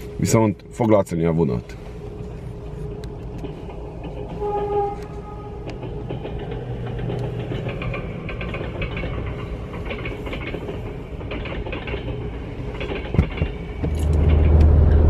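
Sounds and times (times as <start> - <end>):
low train rumble: 0.0 - 15.0
train wheels clattering: 0.0 - 15.0.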